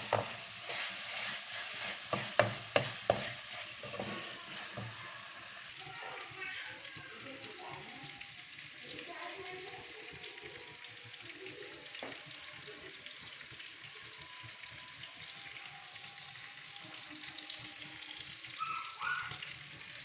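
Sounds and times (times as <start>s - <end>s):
liver sizzling in oil: 0.0s - 20.0s.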